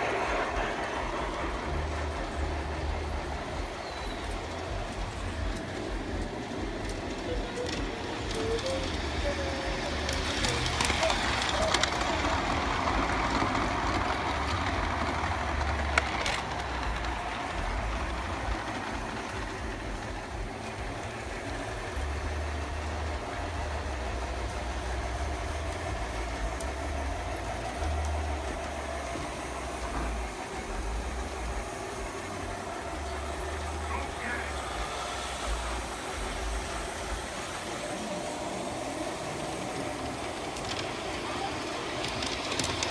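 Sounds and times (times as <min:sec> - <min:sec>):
model trains whirring and rumbling: 0:00.0 - 0:42.9.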